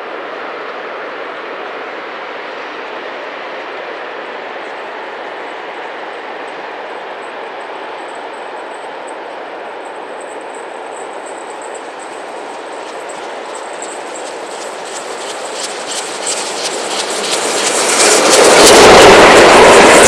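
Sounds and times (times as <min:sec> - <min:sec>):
steam locomotive working: 0:00.9 - 0:20.0.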